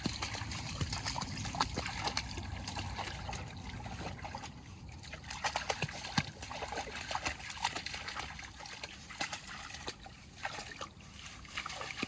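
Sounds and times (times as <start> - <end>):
shallow water trickling and splashing: 0.0 - 12.0.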